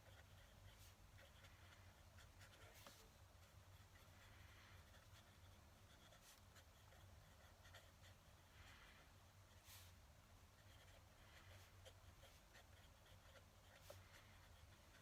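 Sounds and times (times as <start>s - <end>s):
pen nib scratching on paper: 0.0s - 8.5s, 9.4s - 15.0s.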